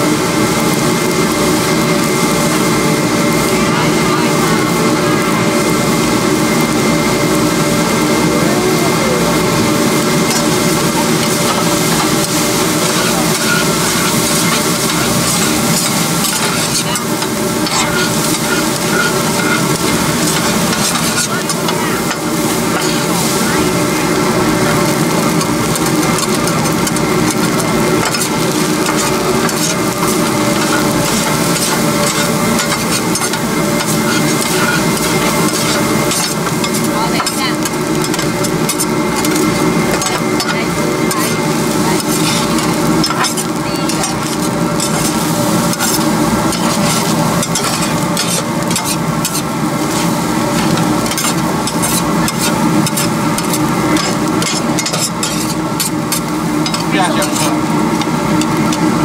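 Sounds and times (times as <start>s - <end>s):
steady sizzling: 0.0s - 59.0s
metal spatula scraping wok: 10.0s - 23.4s, 24.0s - 59.0s.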